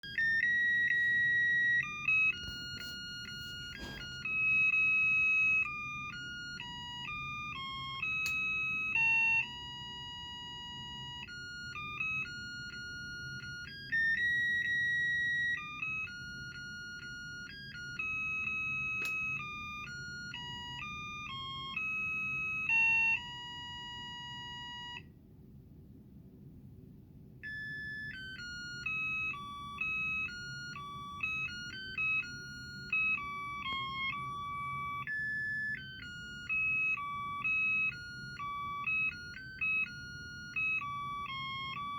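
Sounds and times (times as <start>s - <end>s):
electronic beeping carol melody: 0.0s - 25.1s, 27.4s - 41.9s.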